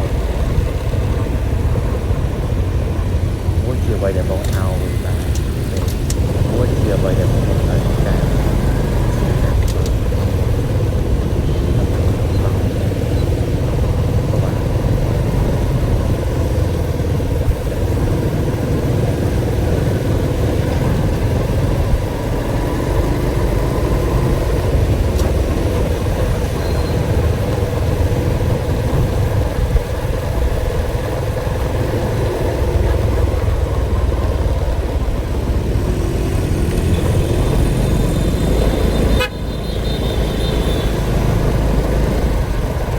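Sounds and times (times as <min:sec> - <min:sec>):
road and wind noise: 0:00.0 - 0:42.9
vehicle engine running: 0:00.0 - 0:42.9.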